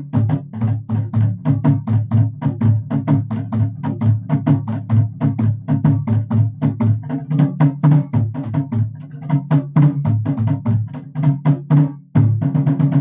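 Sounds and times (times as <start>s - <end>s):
kettle drums beaten fast: 0.0s - 13.0s.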